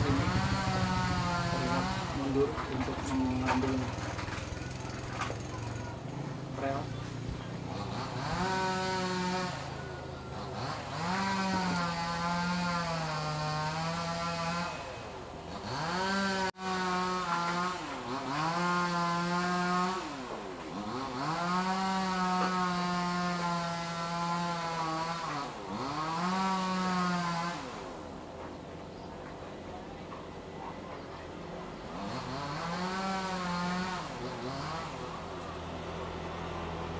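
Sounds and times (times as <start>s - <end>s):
engine revving: 0.0s - 28.2s, 31.7s - 36.9s.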